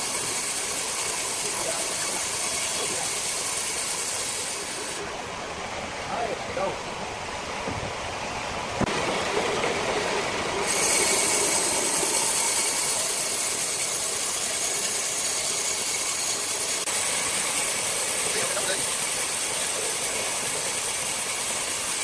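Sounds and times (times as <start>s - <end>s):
circular saw cutting wood: 0.0s - 5.2s, 9.3s - 22.0s.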